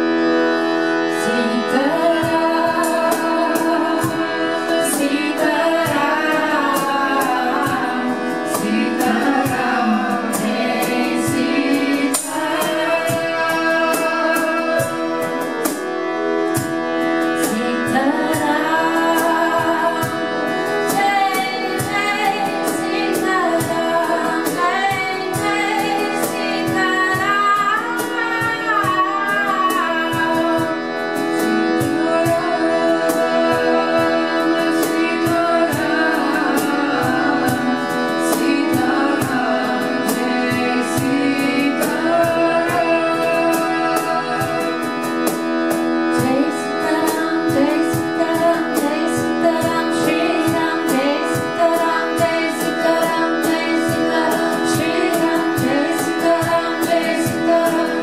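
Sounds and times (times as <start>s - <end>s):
harmonium drone: 0.0s - 58.0s
percussion strikes: 0.0s - 58.0s
woman singing devotional melody: 0.0s - 58.0s.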